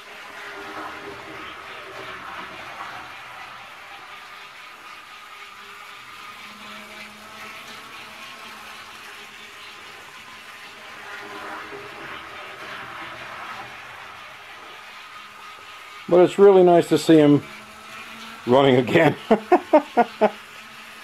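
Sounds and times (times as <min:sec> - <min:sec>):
model train motor whirring: 0:00.0 - 0:21.0
model train rolling on track: 0:00.0 - 0:21.0.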